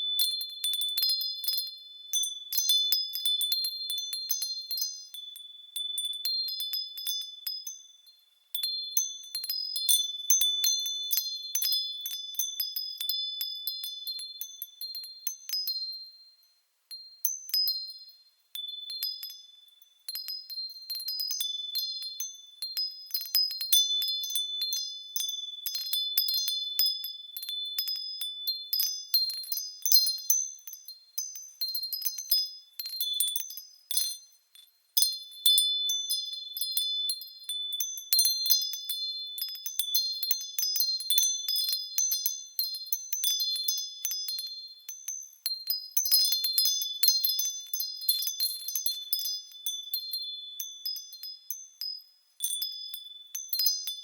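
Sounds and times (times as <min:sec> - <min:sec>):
wind chimes tinkling: 0:00.0 - 0:54.0.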